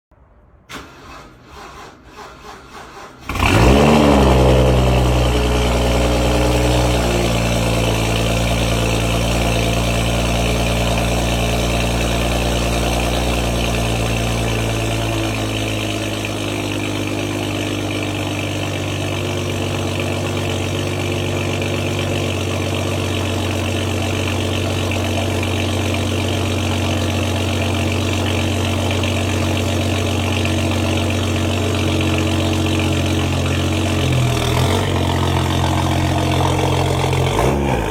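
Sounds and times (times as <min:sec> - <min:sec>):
car engine idling: 0:02.1 - 0:37.9.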